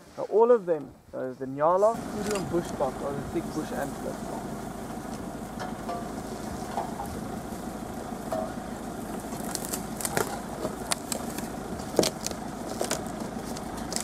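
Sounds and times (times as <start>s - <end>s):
vehicle engine running: 1.7s - 14.0s.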